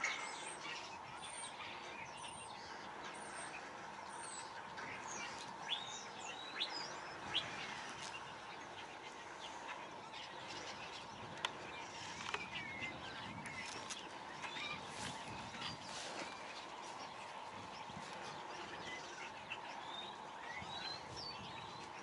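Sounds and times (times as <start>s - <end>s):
outdoor background noise: 0.0s - 22.0s
small birds chirping: 0.0s - 22.0s.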